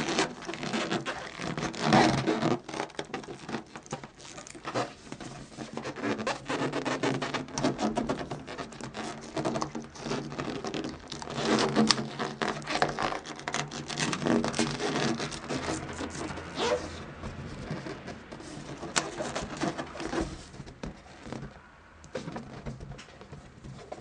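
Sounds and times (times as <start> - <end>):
balloon rubbing and rustling: 0.0 - 24.0.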